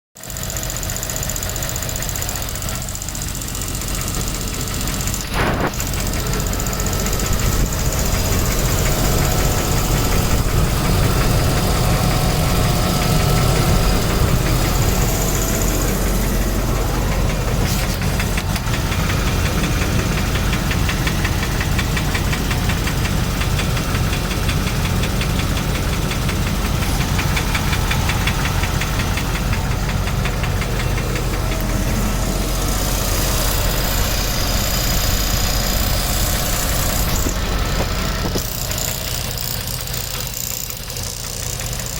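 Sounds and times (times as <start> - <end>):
car engine running: 0.2 - 41.9
fast even clicking: 4.2 - 41.7.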